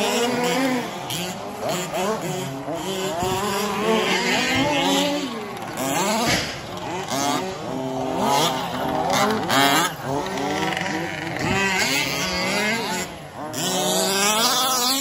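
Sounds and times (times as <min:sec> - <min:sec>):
toy car motors revving: 0:00.0 - 0:15.0.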